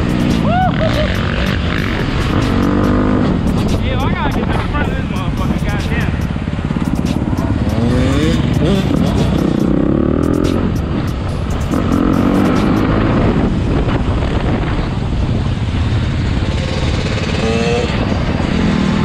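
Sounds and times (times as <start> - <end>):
wind noise on microphone: 0.0 - 10.0, 10.6 - 19.0
dirt bike engines revving: 0.0 - 19.0.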